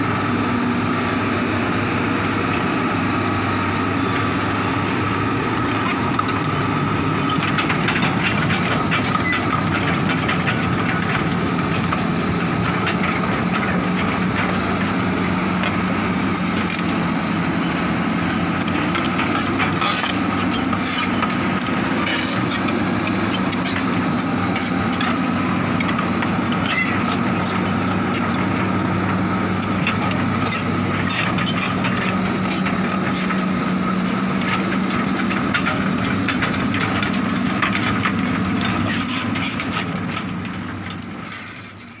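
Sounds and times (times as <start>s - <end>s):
excavator diesel engine running: 0.0s - 42.0s
sharp knocks and clatter: 5.5s - 17.3s, 18.6s - 41.3s.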